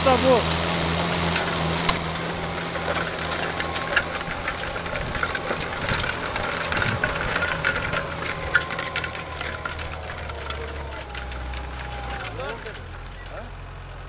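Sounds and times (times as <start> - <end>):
harrow clicking and rattling: 0.0 - 14.0
tractor engine running: 0.0 - 14.0.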